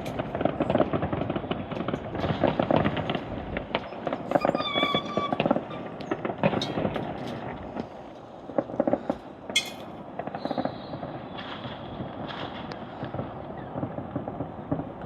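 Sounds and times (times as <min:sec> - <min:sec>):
fireworks popping and crackling: 0:00.0 - 0:15.0
sharp firework crack: 0:00.0 - 0:15.0.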